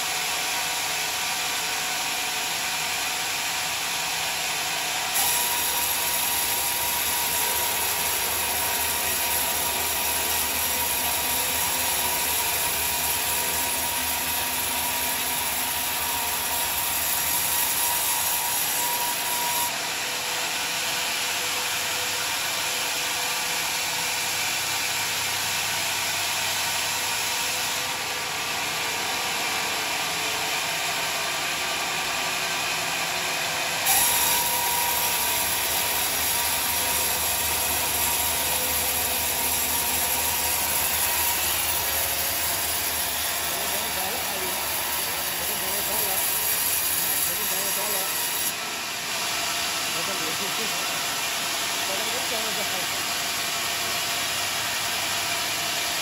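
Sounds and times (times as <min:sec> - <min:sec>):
band saw cutting wood: 0:01.2 - 0:56.0.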